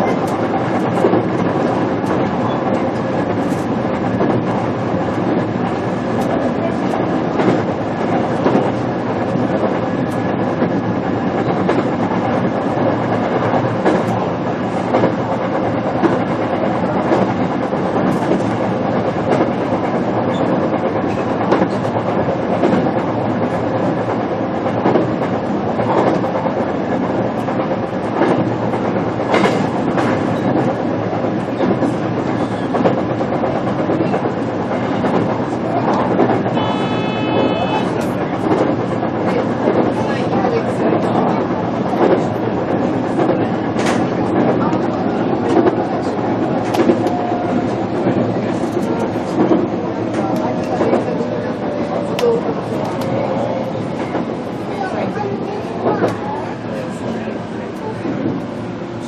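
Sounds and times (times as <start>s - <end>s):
train rolling rumble: 0.0s - 59.0s.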